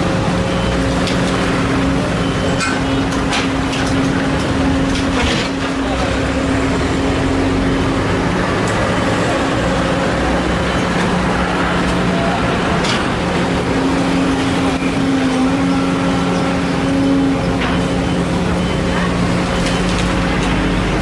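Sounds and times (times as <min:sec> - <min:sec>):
diesel engines running: 0:00.0 - 0:21.0.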